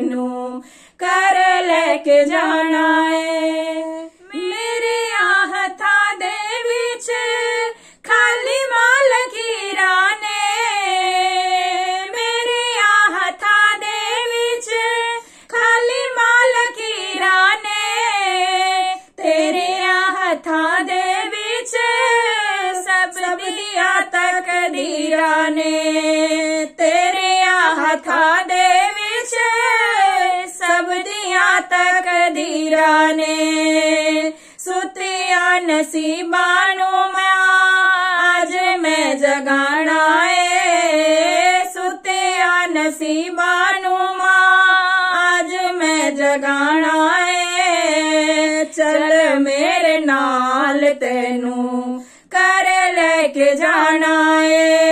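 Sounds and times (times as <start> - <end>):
women singing devotional song: 0.0 - 54.9.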